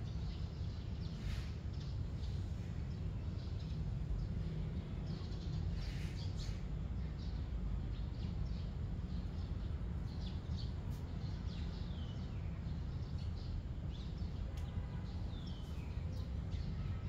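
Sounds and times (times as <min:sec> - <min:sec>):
low outdoor rumble: 0:00.0 - 0:17.0
small birds chirping: 0:00.0 - 0:17.0.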